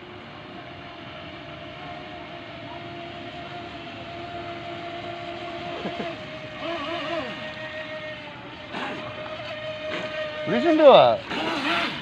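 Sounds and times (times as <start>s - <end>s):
rc boat motors whining: 0.0s - 12.0s.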